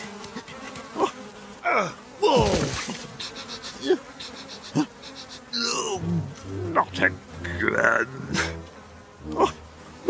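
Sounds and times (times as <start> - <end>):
cartoon flies buzzing: 0.0 - 10.0.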